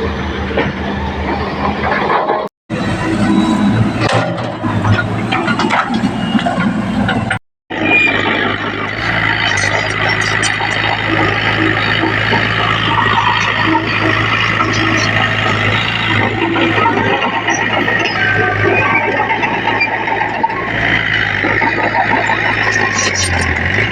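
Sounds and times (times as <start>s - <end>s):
heavy diesel machinery running: 0.0s - 23.9s.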